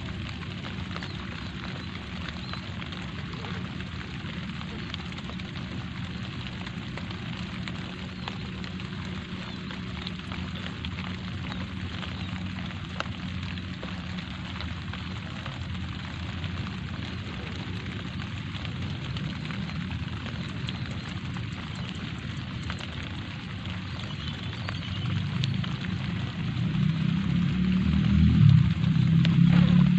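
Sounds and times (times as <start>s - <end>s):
light rain falling: 0.0s - 29.9s
low rumble: 0.0s - 29.9s.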